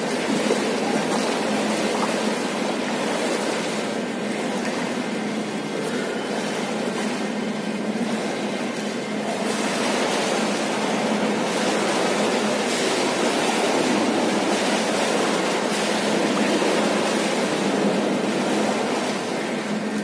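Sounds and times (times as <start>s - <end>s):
churning pool water: 0.0s - 20.0s
low hum: 0.0s - 20.0s.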